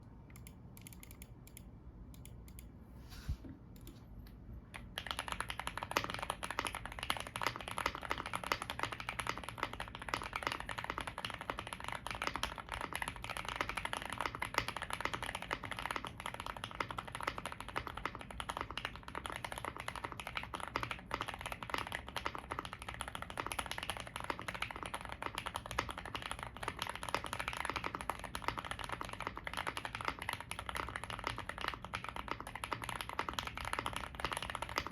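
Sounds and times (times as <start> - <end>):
mechanical keyboard typing: 0.3 - 2.7, 4.7 - 34.9.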